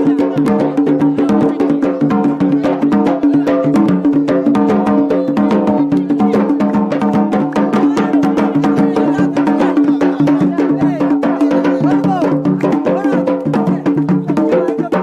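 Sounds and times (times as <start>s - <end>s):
drums beating fast rhythm: 0.0s - 15.0s.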